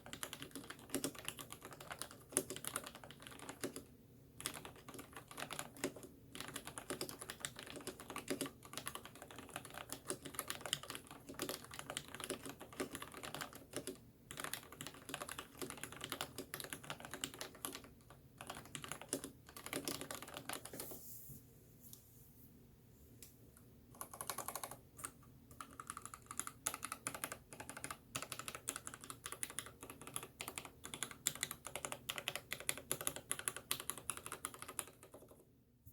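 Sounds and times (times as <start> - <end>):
mechanical keyboard typing: 0.0 - 20.8, 23.9 - 35.5.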